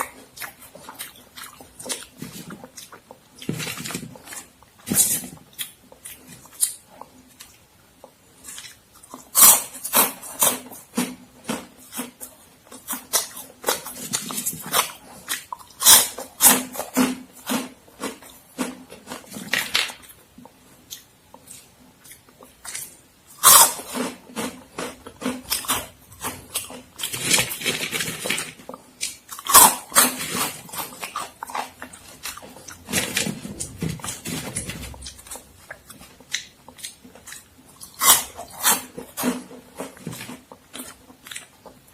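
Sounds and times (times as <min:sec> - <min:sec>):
crunchy snacks being chewed: 0:00.0 - 0:41.9.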